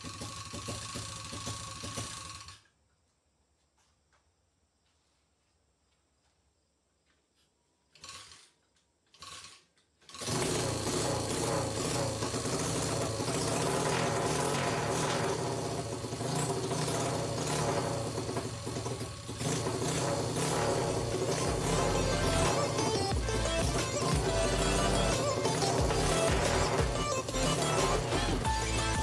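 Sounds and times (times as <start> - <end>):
dirt bike engine starting and running: 0.0 - 2.9, 7.9 - 29.0.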